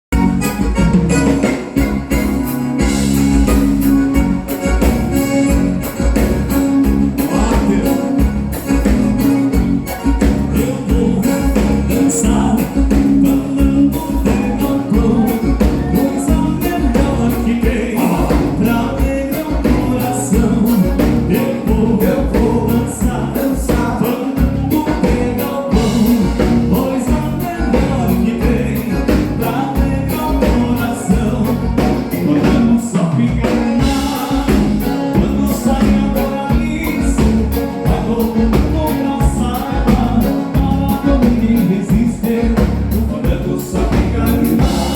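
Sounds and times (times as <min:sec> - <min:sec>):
live band playing dance music: 0:00.1 - 0:44.9
person singing: 0:04.5 - 0:44.9.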